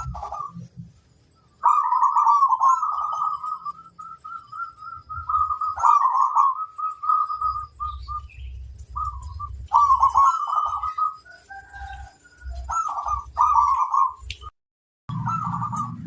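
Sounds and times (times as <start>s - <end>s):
dove cooing: 0.0s - 0.9s, 1.6s - 14.3s, 15.1s - 16.0s.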